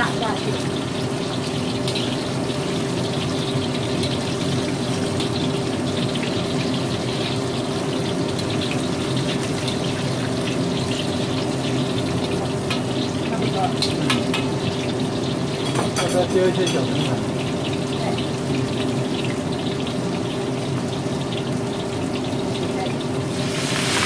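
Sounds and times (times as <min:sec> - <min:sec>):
oil sizzling while deep-frying: 0:00.0 - 0:24.0.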